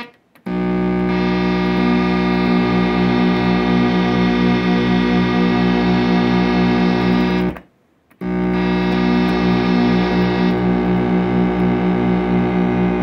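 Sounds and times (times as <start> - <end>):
distorted synthesizer drone pulsing: 0.0 - 7.6, 8.2 - 13.0.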